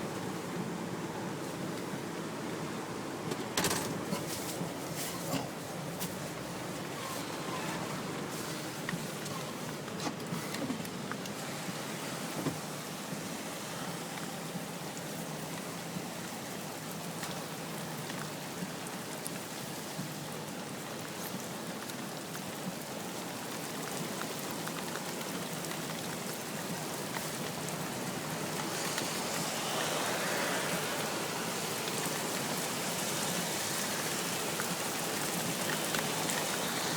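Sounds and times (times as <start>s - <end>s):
steady rain hiss: 0.0s - 36.9s.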